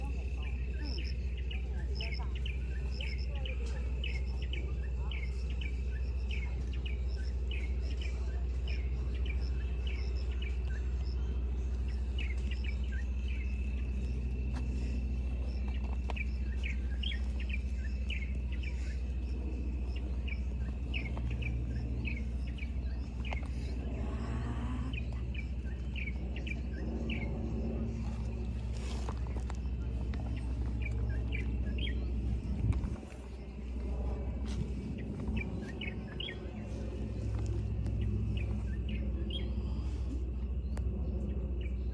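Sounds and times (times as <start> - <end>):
birds chirping: 0.0 - 41.9
low rumble: 0.0 - 41.9.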